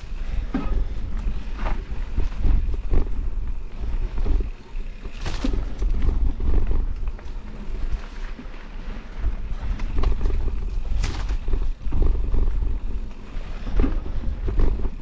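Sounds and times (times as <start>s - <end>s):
bike rattling and knocking: 0.0s - 15.0s
tyres rolling on dirt: 0.0s - 15.0s
wind on microphone: 0.0s - 15.0s.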